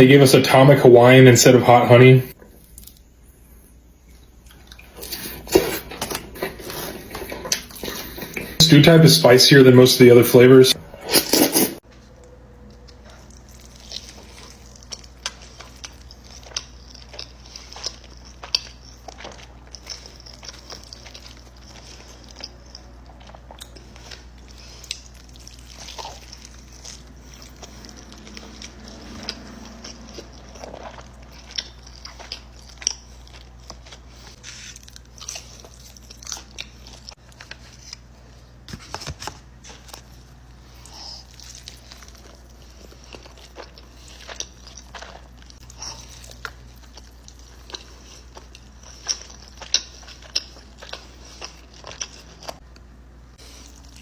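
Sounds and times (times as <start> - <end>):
low steady hum: 0.0 - 54.0
person chewing crunchy food: 4.1 - 8.7, 10.8 - 11.9, 12.7 - 52.6, 53.4 - 54.0.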